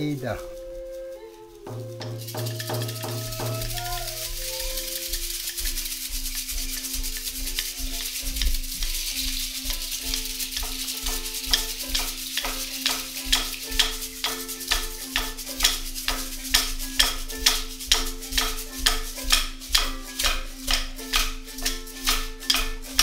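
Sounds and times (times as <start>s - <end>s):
percussive beat: 1.6s - 23.0s.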